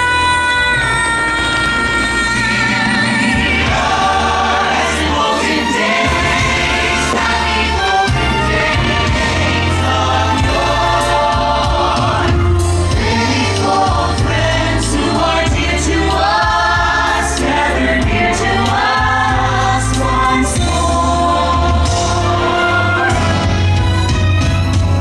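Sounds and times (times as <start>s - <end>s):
choir singing held chords: 0.0s - 23.9s
orchestral backing: 0.0s - 25.0s.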